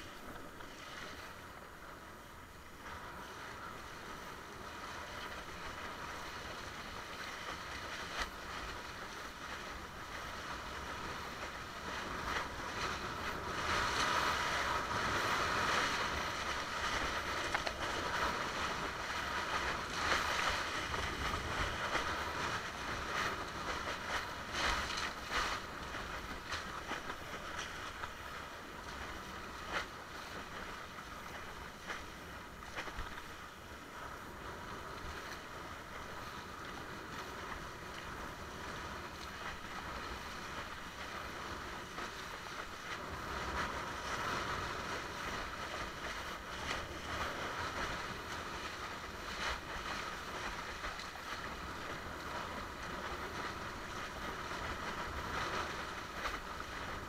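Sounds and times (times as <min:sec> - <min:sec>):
water rushing and splashing: 0:00.0 - 0:57.0
wind noise: 0:00.0 - 0:57.0.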